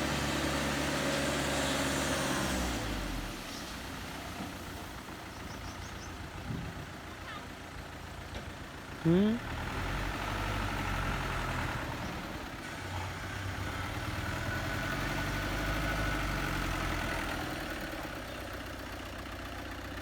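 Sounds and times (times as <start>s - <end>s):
heavy engine idling: 0.0s - 20.0s.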